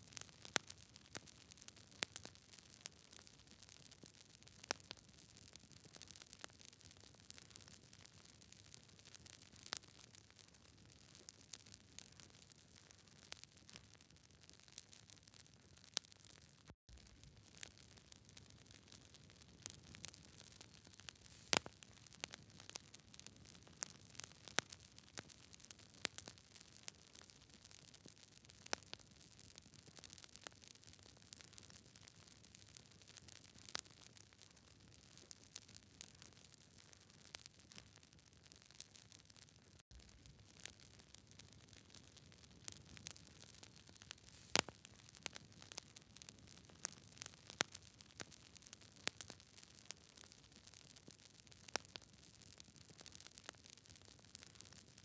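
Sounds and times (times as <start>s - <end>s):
campfire crackling: 0.0s - 55.0s
fire pops and snaps: 10.9s - 55.0s.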